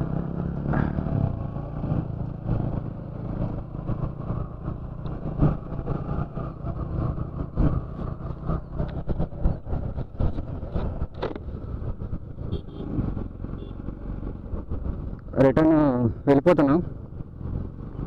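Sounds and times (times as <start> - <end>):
motorcycle engine running: 0.0 - 15.4
wind buffeting microphone: 0.0 - 16.0.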